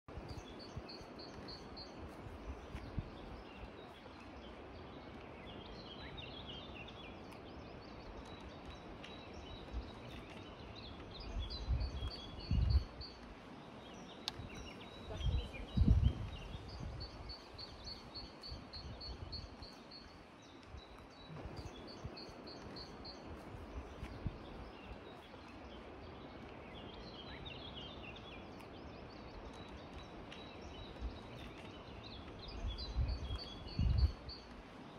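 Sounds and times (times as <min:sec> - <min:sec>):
small birds singing: 0:00.1 - 0:34.9
wind buffeting microphone: 0:00.1 - 0:34.9.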